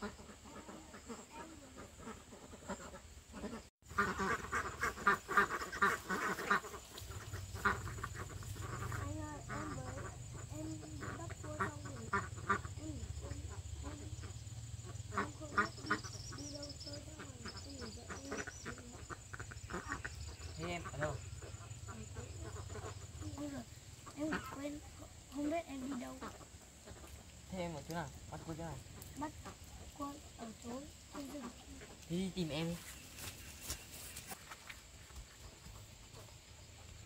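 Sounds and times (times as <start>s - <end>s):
poultry calling: 0.0s - 34.4s.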